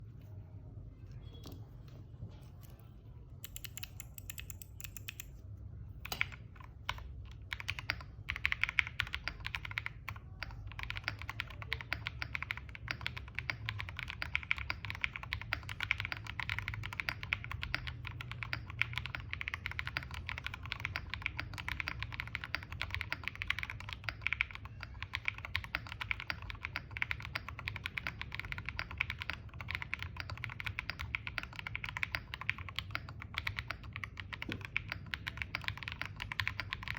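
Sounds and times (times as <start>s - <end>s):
typing on mechanical keyboard: 3.4s - 5.4s, 6.0s - 36.9s.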